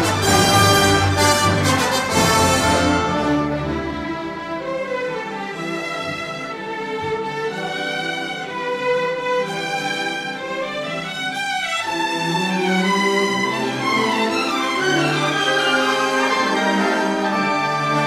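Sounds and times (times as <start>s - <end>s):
orchestral music with strings: 0.0s - 18.0s.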